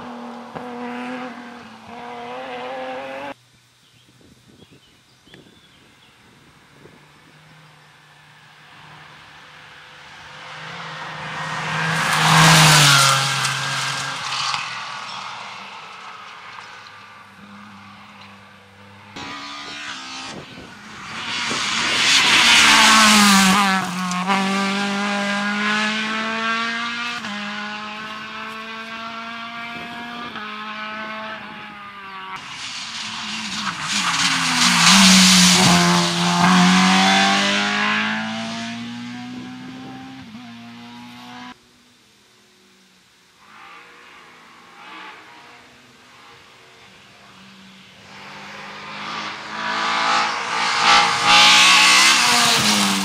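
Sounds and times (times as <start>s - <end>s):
rally car engines revving: 0.0s - 3.4s, 6.8s - 41.6s, 43.4s - 53.0s.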